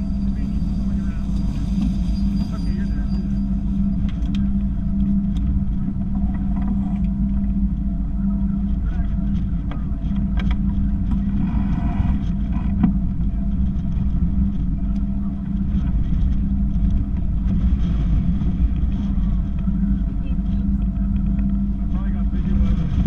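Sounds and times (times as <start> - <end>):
engine drone: 0.0 - 23.0
wind buffeting: 0.0 - 23.0.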